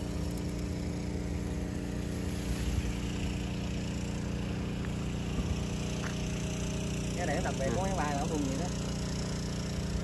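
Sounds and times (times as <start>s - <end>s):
small engine humming: 0.0s - 10.0s.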